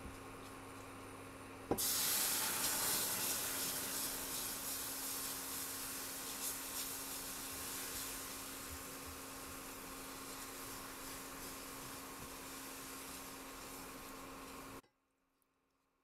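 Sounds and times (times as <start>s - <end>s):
liquid sizzling in hot pan: 1.7s - 14.8s.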